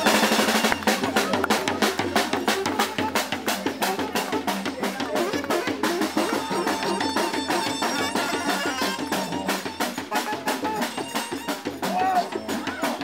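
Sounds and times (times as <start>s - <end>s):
brass playing: 0.0s - 12.0s
drum and cymbals beat: 0.0s - 13.0s.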